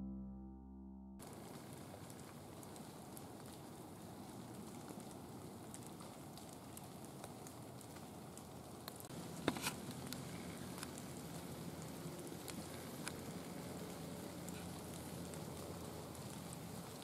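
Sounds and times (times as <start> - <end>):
crackling and ticking: 1.2 - 17.0.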